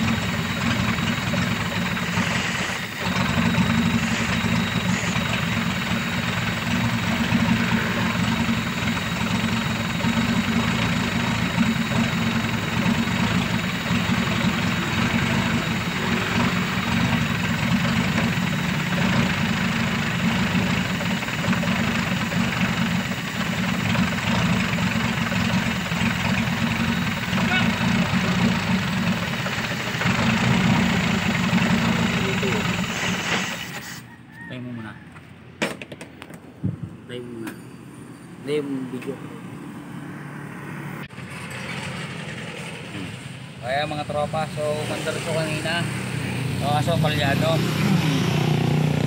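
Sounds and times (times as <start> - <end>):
engine idling unevenly with misfire: 0.0 - 34.1, 41.1 - 49.0.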